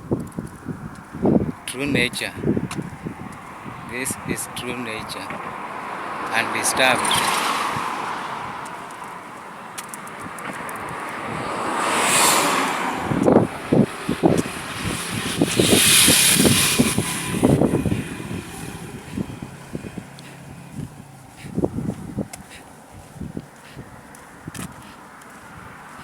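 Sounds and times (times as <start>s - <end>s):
vehicles passing on highway: 0.0s - 26.0s
wind buffeting microphone: 0.0s - 26.0s.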